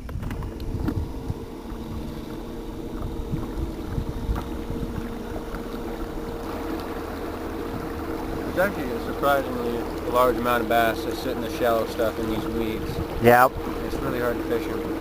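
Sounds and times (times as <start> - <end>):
boat motor humming: 0.0 - 15.0
low wind: 0.0 - 15.0
water rumble: 0.0 - 15.0.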